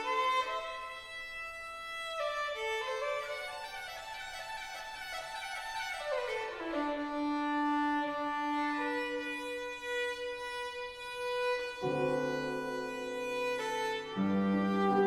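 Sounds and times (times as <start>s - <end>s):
violin playing slow notes: 0.0s - 15.0s.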